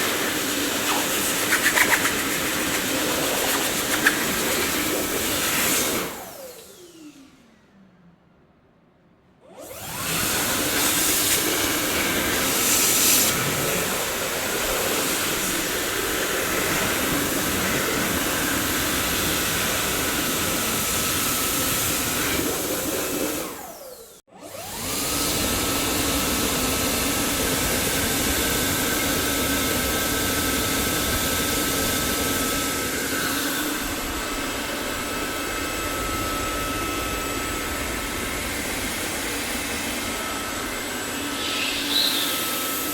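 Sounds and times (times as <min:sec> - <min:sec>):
vacuum cleaner running: 0:00.0 - 0:07.7, 0:09.4 - 0:42.9.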